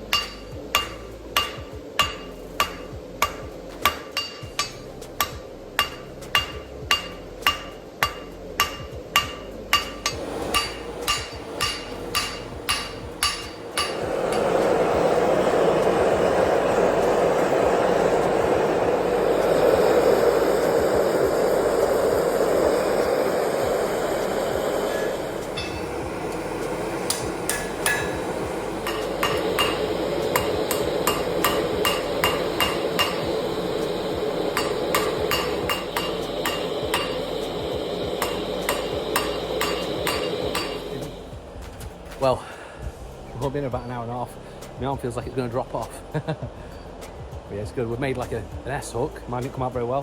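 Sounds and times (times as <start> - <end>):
hammer blows on anvil: 0.0 - 42.3
steady rushing noise: 0.0 - 50.0.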